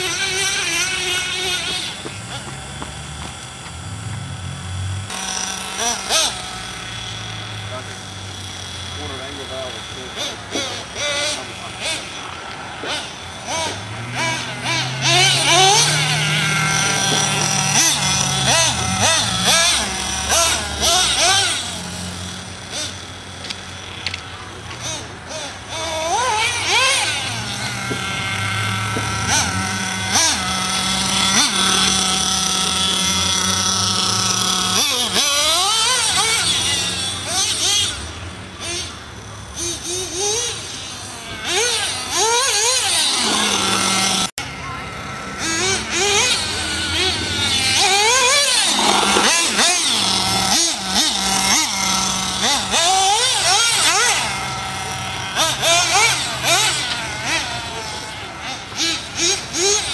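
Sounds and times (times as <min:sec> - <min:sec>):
rc car motor whining: 0:00.0 - 0:59.9
small engine revving: 0:00.0 - 0:59.9.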